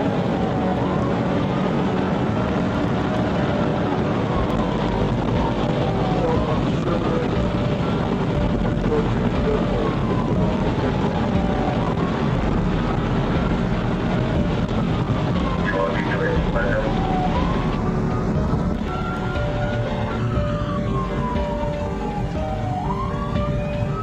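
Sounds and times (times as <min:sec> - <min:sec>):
car engine and road noise: 0:00.0 - 0:24.0
police siren wailing: 0:00.0 - 0:24.0.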